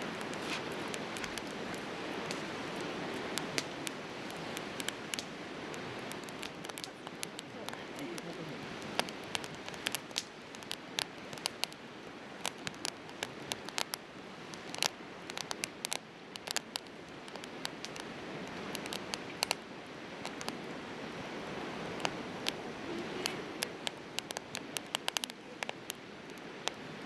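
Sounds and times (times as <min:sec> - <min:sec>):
fire rushing hiss: 0:00.0 - 0:26.8
firewood crackling and popping: 0:00.0 - 0:27.0.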